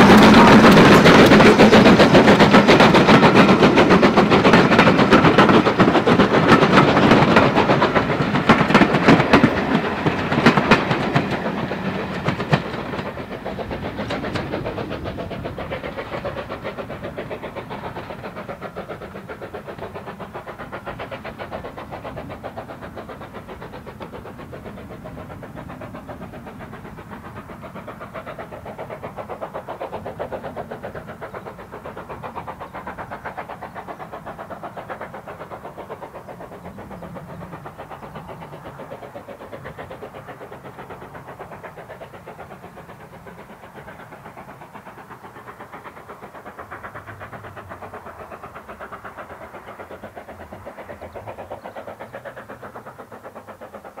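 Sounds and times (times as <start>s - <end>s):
coach wheels clattering over rail joints: 0.0s - 54.0s
steam locomotive exhaust beats: 0.0s - 54.0s.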